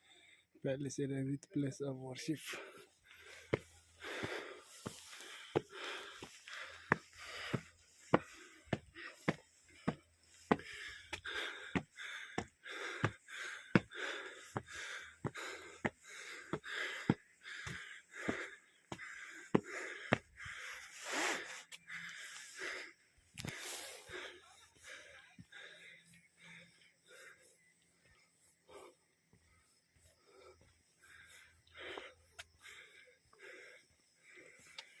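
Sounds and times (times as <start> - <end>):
person breathing hard: 0.0 - 0.6, 2.4 - 35.0.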